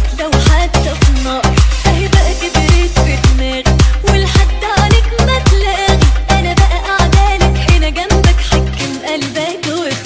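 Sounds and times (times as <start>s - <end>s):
upbeat dance music: 0.0s - 10.0s.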